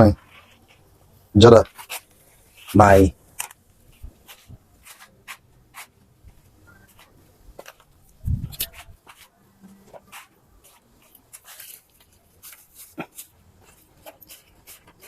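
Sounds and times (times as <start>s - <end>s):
rubbing handling sounds: 0.0s - 15.0s.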